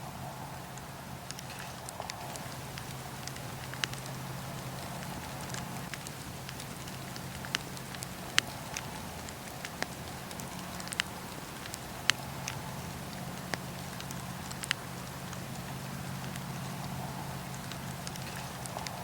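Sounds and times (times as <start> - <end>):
wood fire crackling: 0.1 - 19.0
fire popping and snapping: 0.2 - 19.0.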